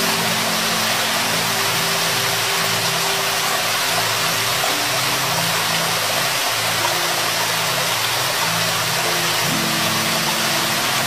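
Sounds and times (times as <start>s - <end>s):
low held music tones: 0.0s - 11.0s
waterfall rushing: 0.0s - 11.0s.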